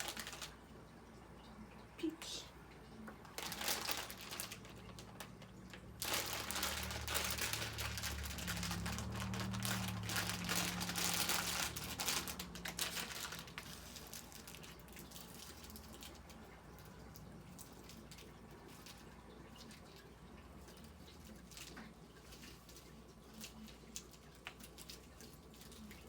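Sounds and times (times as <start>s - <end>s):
plastic wrappers crinkling: 0.0s - 0.8s, 3.2s - 26.0s.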